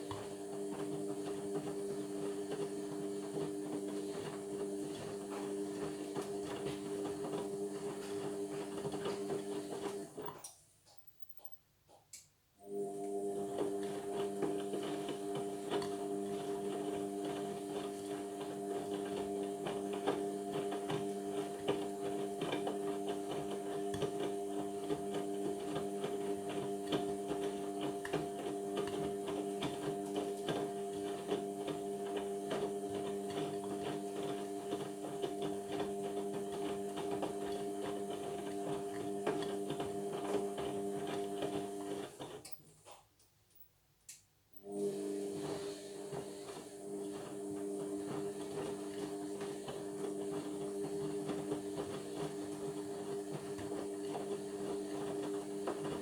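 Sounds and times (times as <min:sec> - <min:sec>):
washing machine humming: 0:00.0 - 0:10.4, 0:12.6 - 0:42.5, 0:44.6 - 0:56.0.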